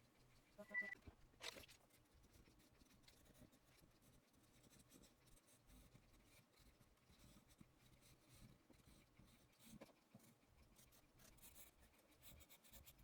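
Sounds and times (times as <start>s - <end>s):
pencil scratching on paper: 1.6s - 13.0s.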